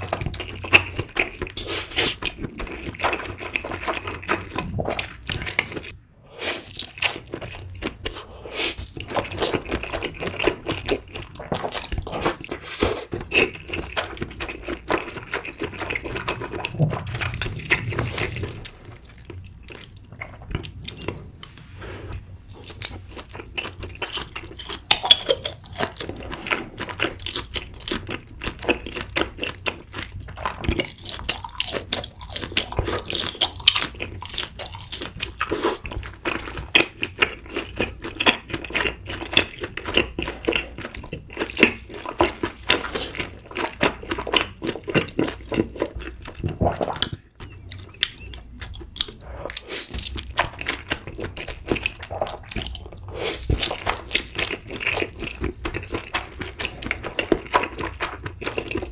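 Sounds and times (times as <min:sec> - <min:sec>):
wet chewing and smacking: 0:00.0 - 0:06.0, 0:06.7 - 0:58.9.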